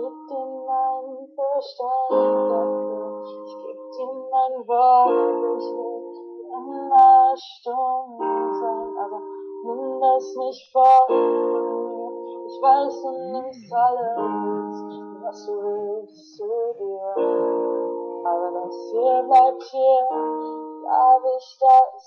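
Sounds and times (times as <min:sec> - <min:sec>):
held instrumental chords: 0:00.0 - 0:01.1, 0:01.9 - 0:22.0
woman singing pop song: 0:00.0 - 0:22.0.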